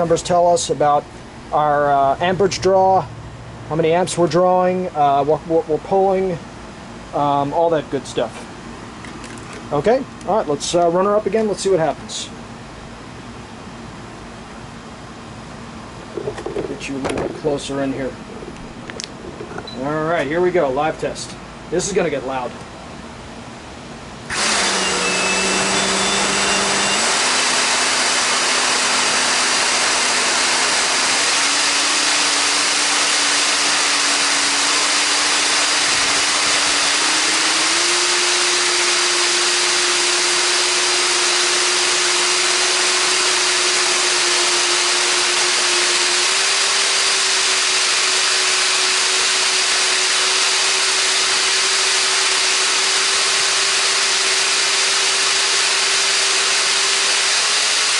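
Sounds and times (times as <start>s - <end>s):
electric ducted fan whining: 0.0s - 57.9s.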